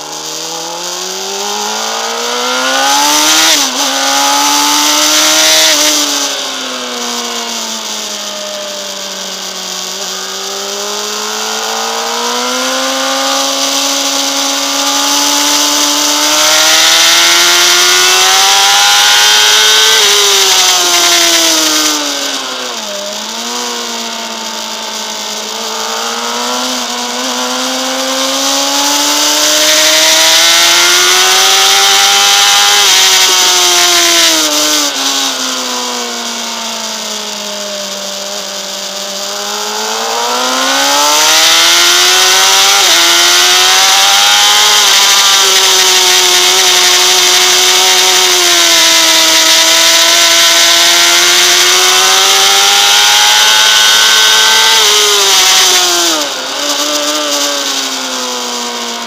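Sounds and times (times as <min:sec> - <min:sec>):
motorcycle engine revving hard: 0:00.0 - 0:59.0.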